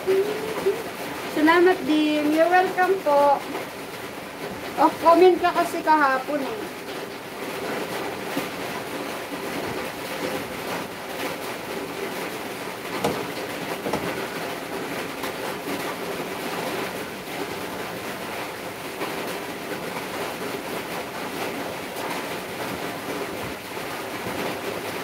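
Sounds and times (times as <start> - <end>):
steady rushing background noise: 0.0 - 25.0.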